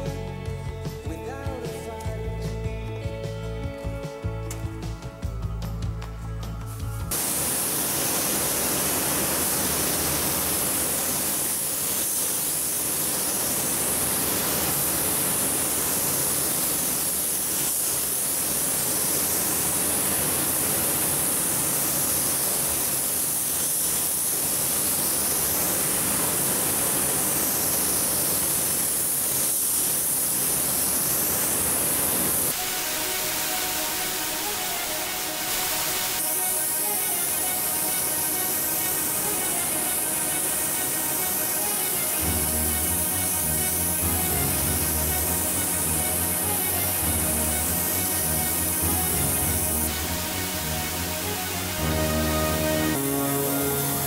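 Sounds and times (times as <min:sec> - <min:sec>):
air spray gun hissing: 0:06.8 - 0:54.0.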